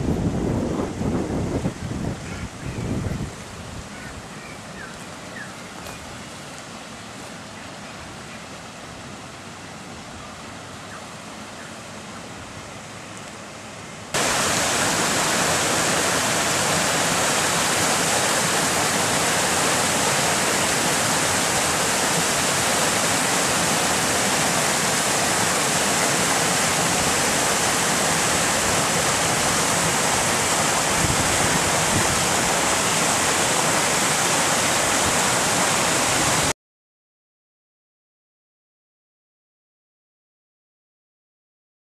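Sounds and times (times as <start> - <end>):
floodwater rushing: 0.0 - 36.5.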